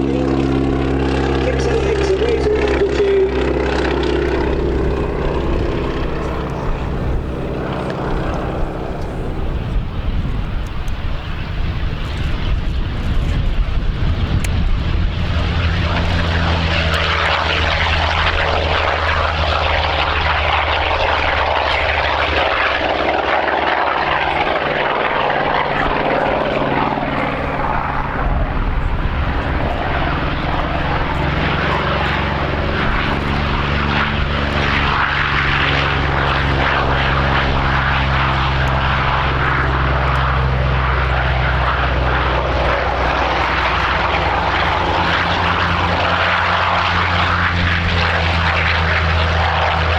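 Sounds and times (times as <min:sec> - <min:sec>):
propeller aircraft engine: 0:00.0 - 0:49.9.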